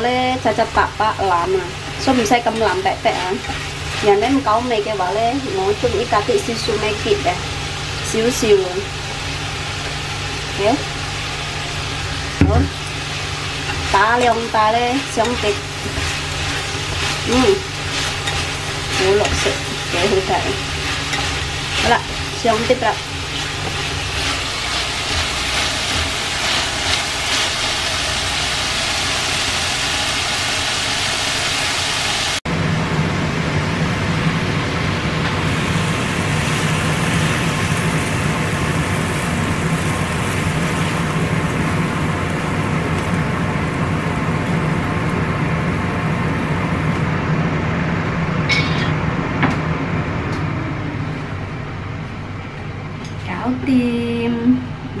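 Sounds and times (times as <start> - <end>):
vegetables sizzling in a frying pan: 0.0 - 47.6
steady low mechanical hum: 0.0 - 55.0.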